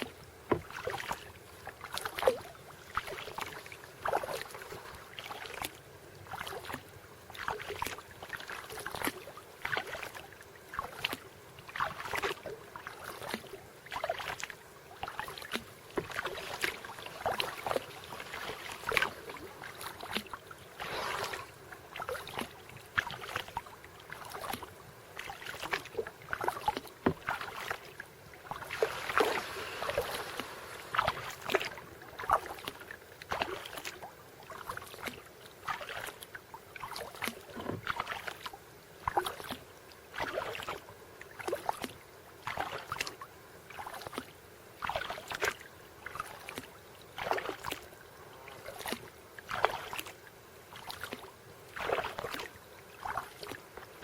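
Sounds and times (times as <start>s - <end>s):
paddle splashing in water: 0.0s - 54.0s.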